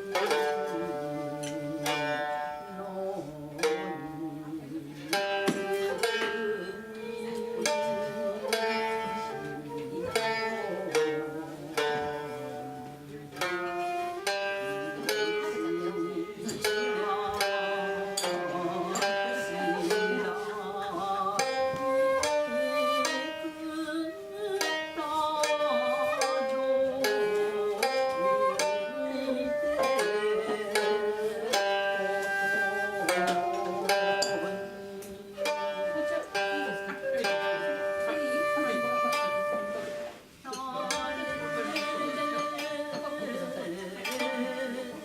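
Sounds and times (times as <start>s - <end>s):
plucked string notes: 0.0s - 45.0s.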